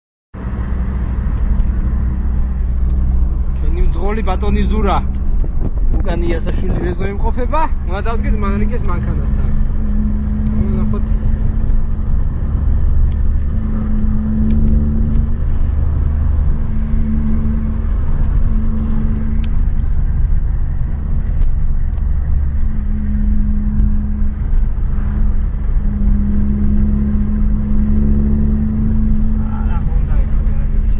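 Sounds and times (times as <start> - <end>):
car engine and tyre rumble: 0.3 - 30.9.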